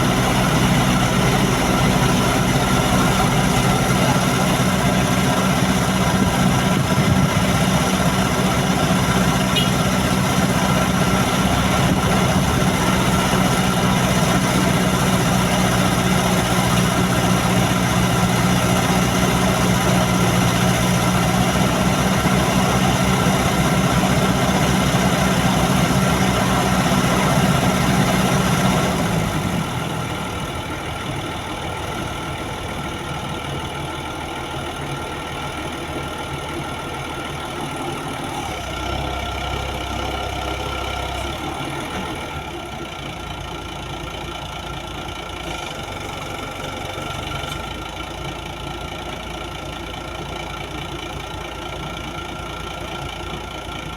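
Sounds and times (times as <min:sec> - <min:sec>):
diesel engine running under load: 0:00.0 - 0:53.9.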